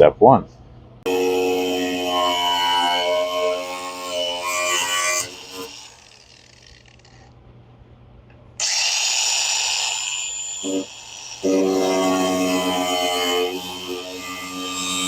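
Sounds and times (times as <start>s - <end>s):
power tool high whine: 1.1s - 7.2s, 8.6s - 15.0s.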